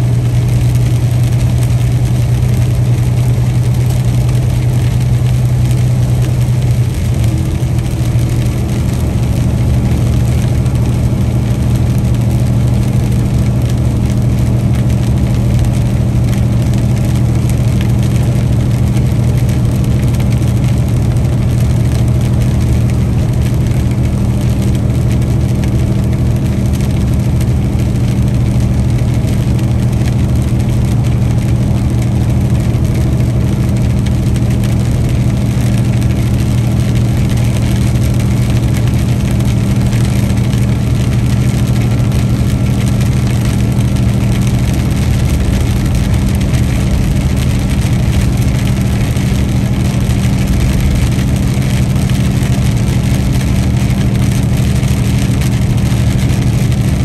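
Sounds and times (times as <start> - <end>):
truck engine droning: 0.0 - 57.0.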